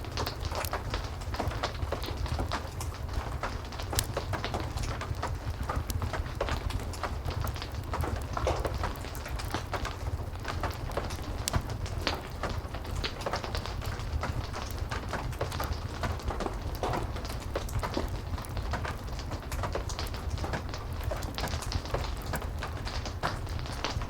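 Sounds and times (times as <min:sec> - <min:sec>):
fireplace crackling: 0:00.0 - 0:24.0
heavy rain: 0:00.0 - 0:24.0.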